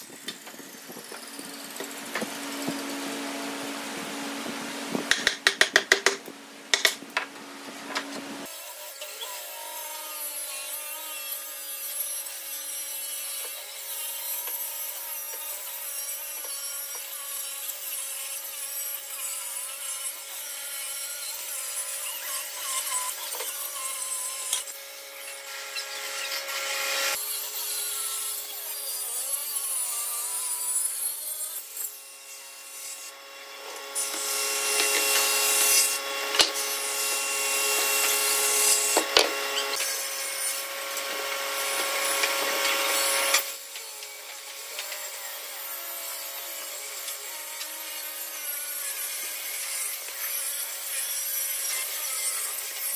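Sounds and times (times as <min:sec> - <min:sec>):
circular saw cutting wood: 0:00.0 - 0:07.0, 0:07.8 - 0:52.9.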